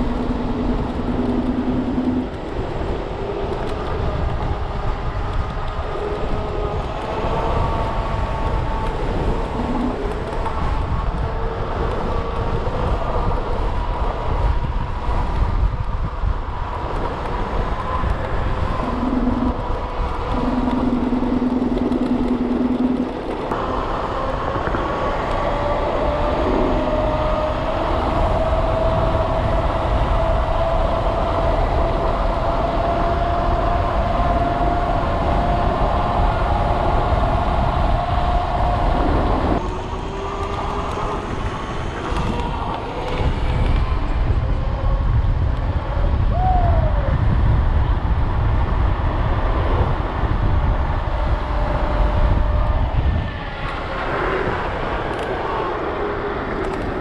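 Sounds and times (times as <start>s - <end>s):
thin motor whine: 0.0s - 48.9s
road rumble: 0.0s - 57.0s
steady low tone: 0.0s - 57.0s
wind on microphone: 0.0s - 57.0s.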